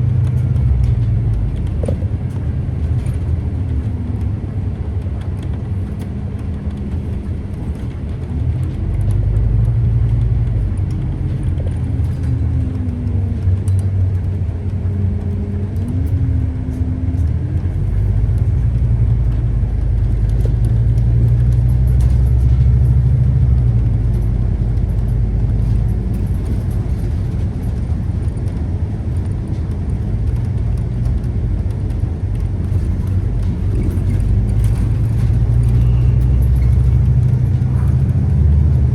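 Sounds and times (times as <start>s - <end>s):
bus engine rumble with whine: 0.0s - 38.9s.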